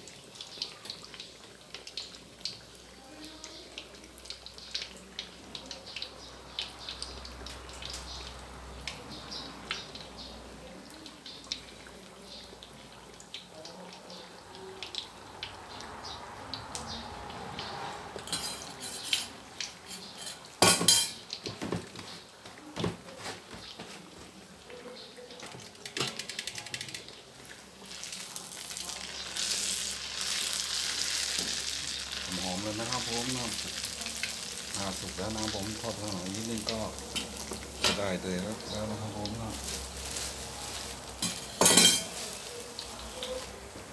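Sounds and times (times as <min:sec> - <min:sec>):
hot oil crackling and popping: 0:00.0 - 0:43.9.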